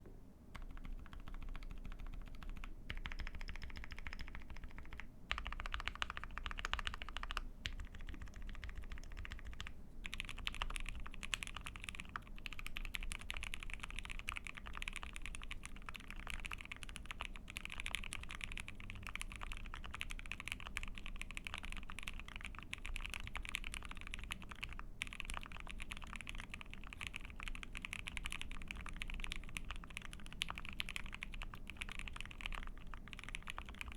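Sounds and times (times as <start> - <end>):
mechanical keyboard typing: 0.6 - 33.9.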